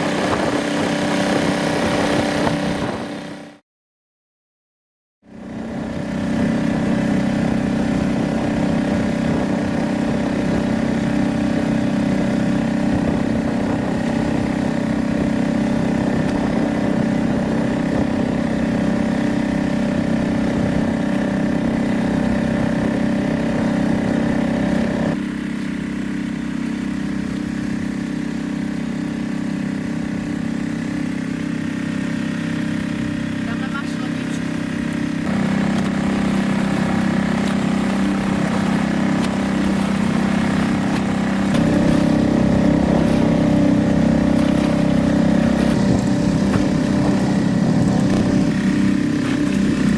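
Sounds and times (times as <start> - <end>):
outboard motor running: 0.0 - 3.6, 5.2 - 49.9.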